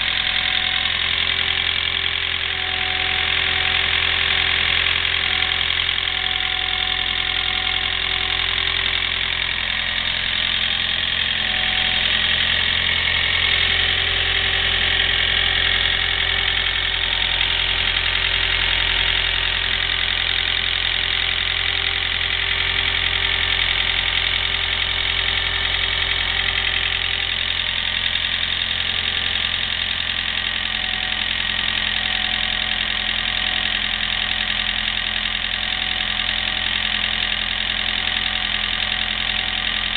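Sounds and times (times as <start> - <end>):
car engine idling: 0.0 - 39.9
rapid engine clicking: 0.0 - 39.9.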